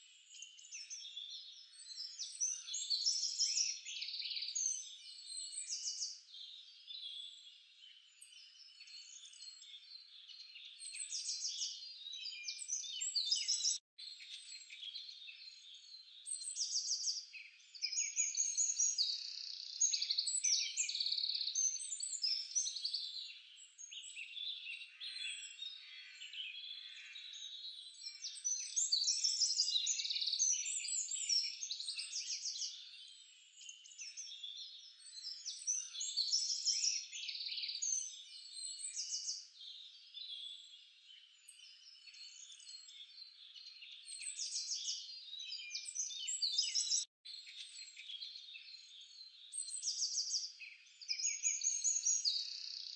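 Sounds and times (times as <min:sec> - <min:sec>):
chorus of birds chirping: 0:00.0 - 0:52.9.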